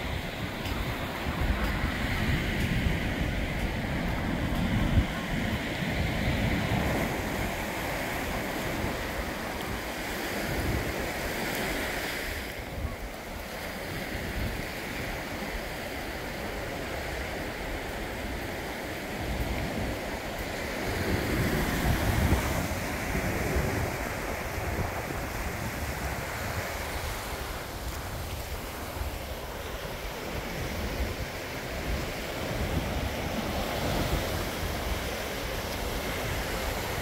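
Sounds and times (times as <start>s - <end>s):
surf waves on sandy beach: 0.0s - 37.0s
wind buffeting microphone: 0.0s - 37.0s.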